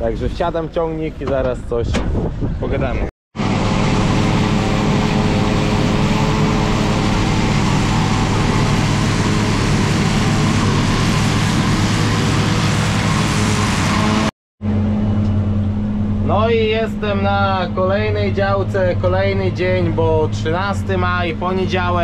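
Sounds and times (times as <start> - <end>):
tractor diesel engine drone: 3.4 - 22.0.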